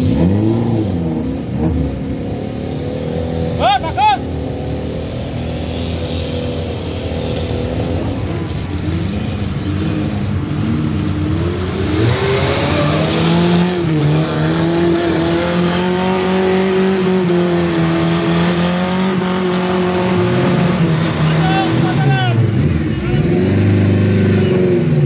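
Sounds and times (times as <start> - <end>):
engine revving: 0.0 - 25.0.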